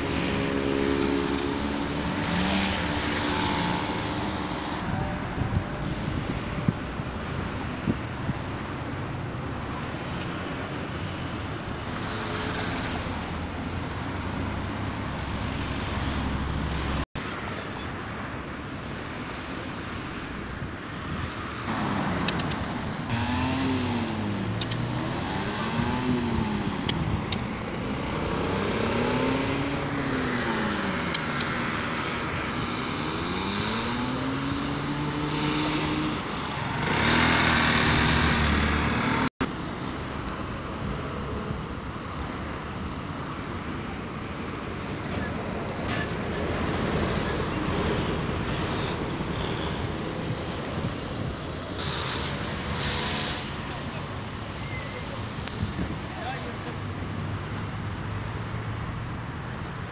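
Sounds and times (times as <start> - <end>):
road traffic and vehicle noise: 0.0 - 59.9.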